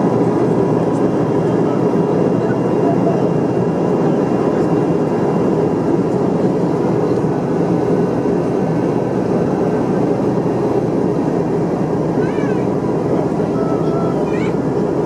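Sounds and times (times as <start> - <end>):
jet cabin engine roar: 0.0 - 15.0.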